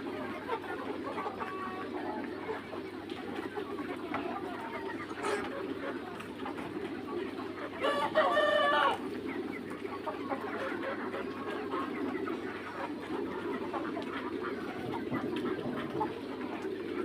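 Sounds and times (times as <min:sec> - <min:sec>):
chickens clucking and chirping: 0:00.0 - 0:17.0.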